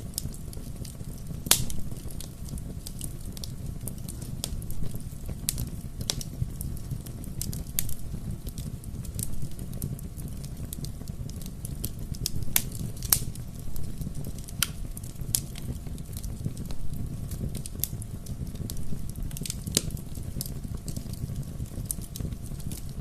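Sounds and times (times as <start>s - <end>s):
burning wood popping and snapping: 0.0s - 23.0s
low rumble of flames: 0.0s - 23.0s.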